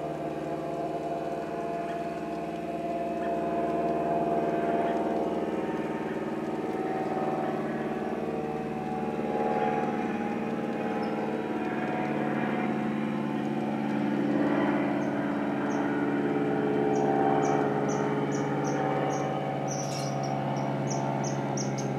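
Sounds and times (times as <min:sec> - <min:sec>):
model train motor humming: 0:00.0 - 0:21.9.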